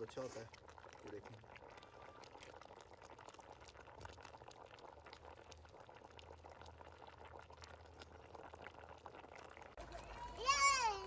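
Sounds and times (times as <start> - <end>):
broth bubbling in a pan: 0.0 - 11.0
broth poured into pan: 0.0 - 11.0.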